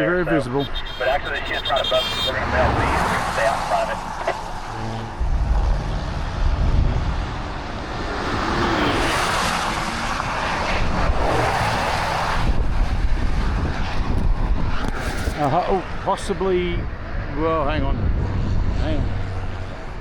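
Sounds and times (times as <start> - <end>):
car road and engine noise: 0.0 - 20.0
wind buffeting microphone: 4.0 - 20.0.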